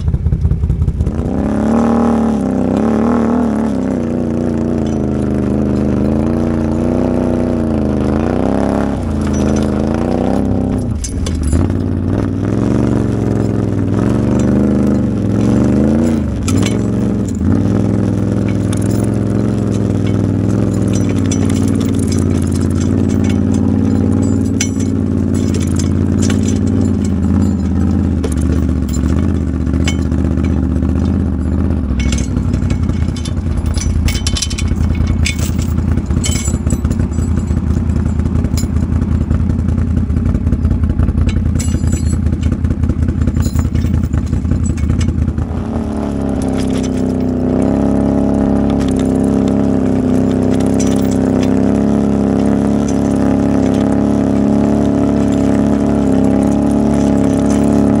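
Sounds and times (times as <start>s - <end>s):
engine running: 0.0s - 58.0s
metal clatter and scrapes: 0.0s - 58.0s.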